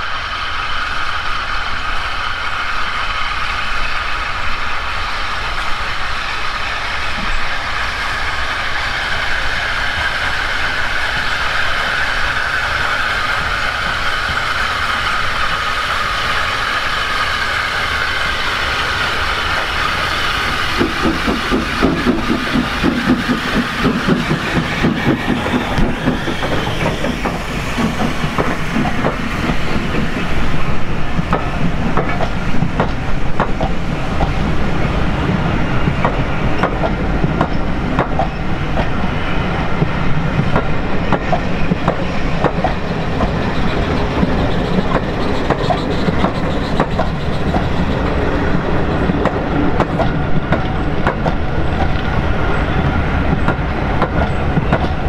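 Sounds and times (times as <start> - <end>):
steam locomotive passing: 0.0 - 55.0
train wheels clicking on rail joints: 0.5 - 55.0.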